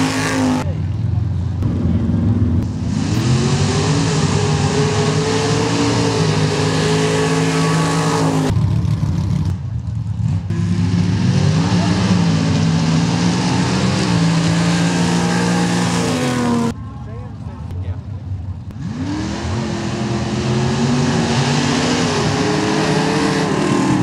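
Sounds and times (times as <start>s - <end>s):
racing engines at high revs: 0.0s - 16.8s, 18.5s - 24.0s.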